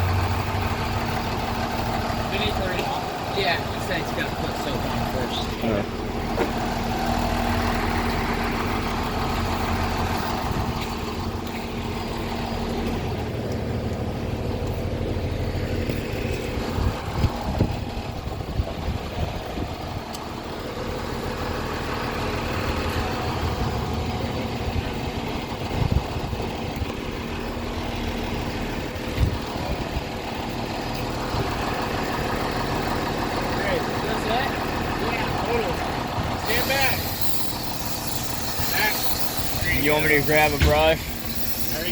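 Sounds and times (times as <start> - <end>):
fire truck engine idling: 0.0 - 41.9.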